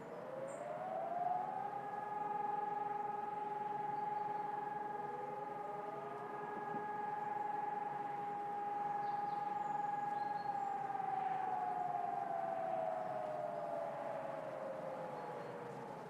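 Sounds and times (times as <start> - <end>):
distant electronic sirens: 0.0 - 16.0.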